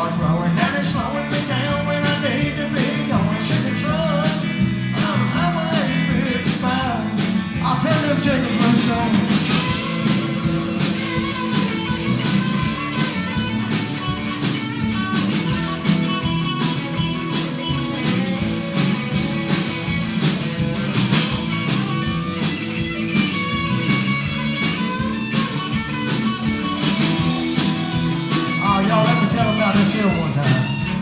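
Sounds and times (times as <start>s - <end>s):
country rock band playing: 0.0s - 31.0s
electric guitar lead: 0.0s - 31.0s.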